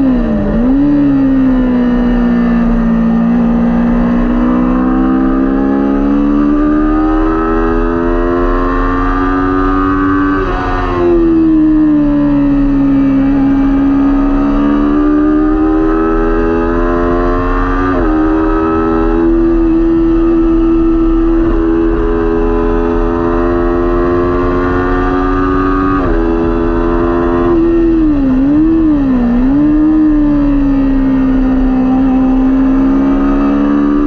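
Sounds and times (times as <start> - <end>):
motorcycle engine racing: 0.0 - 34.0.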